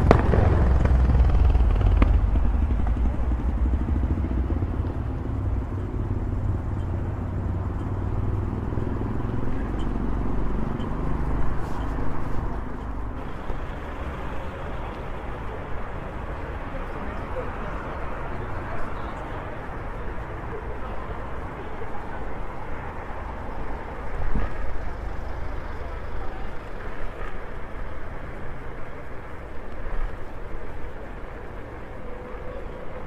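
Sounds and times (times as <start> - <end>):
electric scooter riding rumble: 0.0 - 33.0
road and air noise: 0.0 - 33.0.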